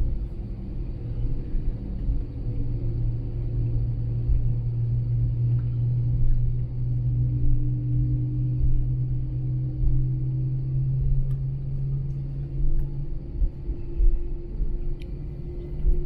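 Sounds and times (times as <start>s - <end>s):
landing gear rumbling on taxiway: 0.0s - 16.0s
low aircraft engine hum: 0.0s - 16.0s.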